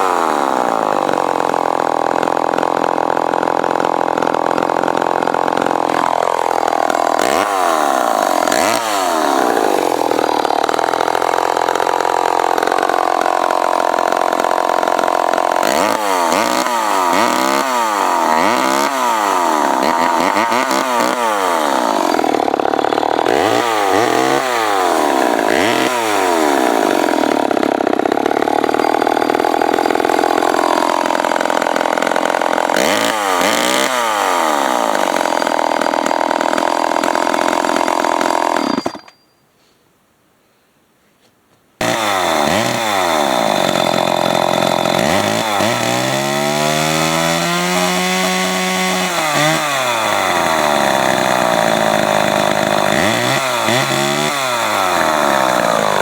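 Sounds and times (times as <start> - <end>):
chainsaw engine revving: 0.0 - 38.8, 41.8 - 56.0.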